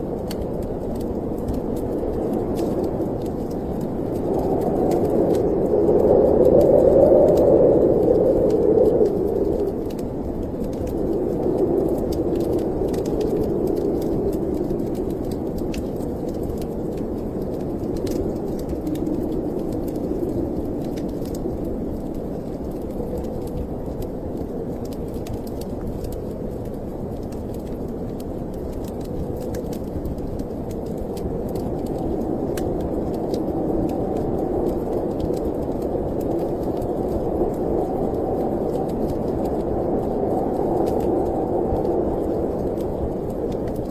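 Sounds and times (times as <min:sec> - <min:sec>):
snowstorm wind blowing: 0:00.0 - 0:43.9
wood fire crackling: 0:00.0 - 0:43.9.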